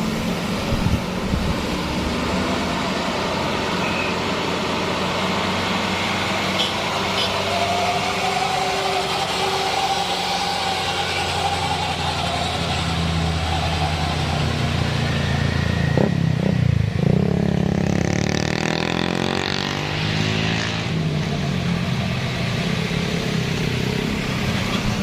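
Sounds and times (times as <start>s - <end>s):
vehicle engine drone: 0.0s - 25.0s.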